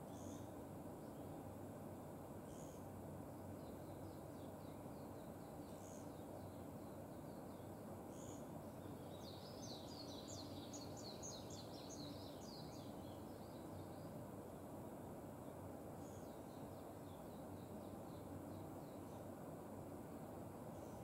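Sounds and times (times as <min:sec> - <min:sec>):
bird twittering song: 0:00.0 - 0:01.4, 0:02.5 - 0:14.7, 0:15.4 - 0:19.3.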